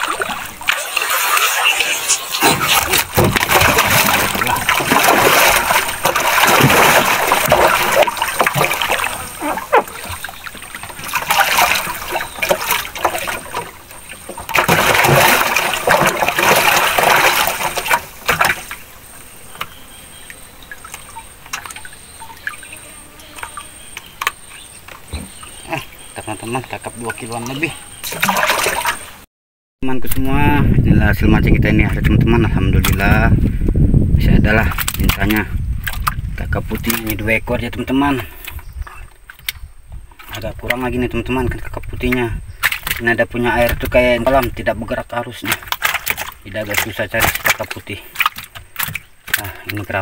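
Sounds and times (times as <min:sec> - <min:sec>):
water splashing against boat: 0:00.0 - 0:29.3, 0:31.4 - 0:33.4, 0:34.2 - 0:50.0
water trickles and drips: 0:03.0 - 0:29.2, 0:34.6 - 0:50.0.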